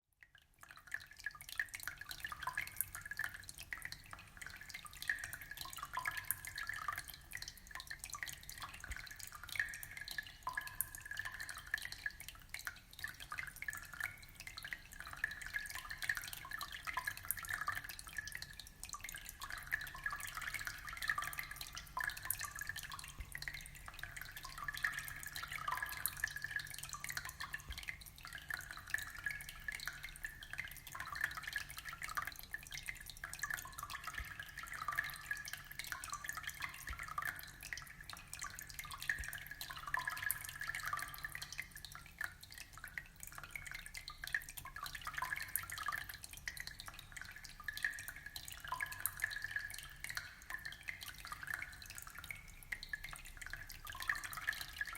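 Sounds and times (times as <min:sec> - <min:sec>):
water trickling and dripping: 0:00.1 - 0:54.9.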